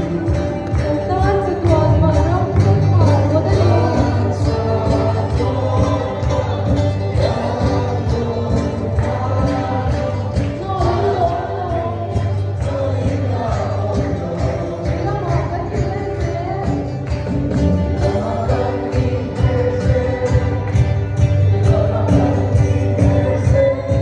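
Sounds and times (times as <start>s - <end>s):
amplified electric guitar: 0.0s - 24.0s
person singing into a microphone: 0.0s - 24.0s
congregation singing: 2.1s - 24.0s.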